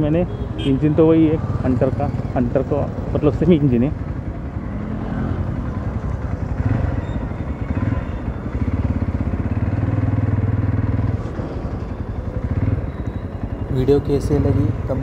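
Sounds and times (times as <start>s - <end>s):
motorcycle engine running: 1.4s - 15.0s.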